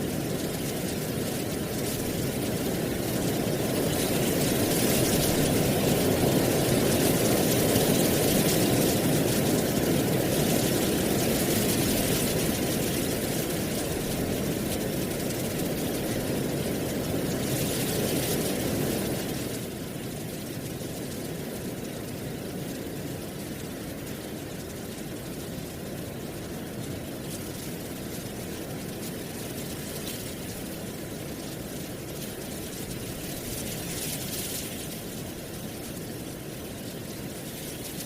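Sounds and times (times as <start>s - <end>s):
wind rustling dry leaves: 0.0s - 38.0s.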